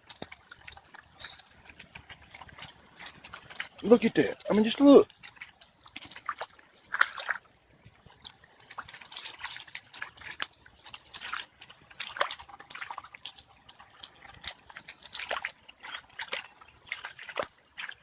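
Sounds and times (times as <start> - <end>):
rainwater sloshing and splashing: 0.0 - 18.0.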